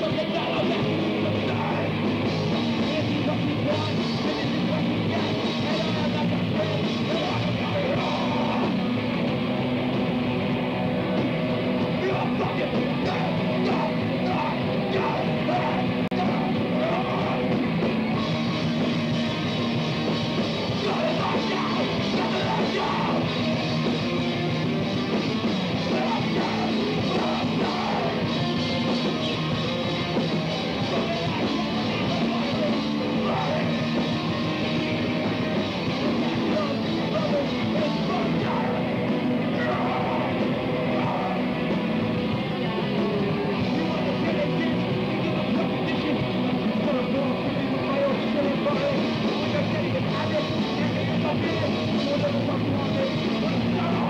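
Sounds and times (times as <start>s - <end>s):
singer shouting: 0.0s - 9.5s, 10.4s - 54.0s
punk band playing live: 0.0s - 54.0s.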